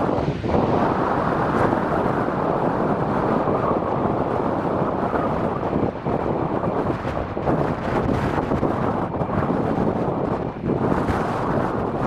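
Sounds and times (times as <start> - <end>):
gusty wind on microphone: 0.0 - 12.0
jet engine noise: 0.0 - 12.0.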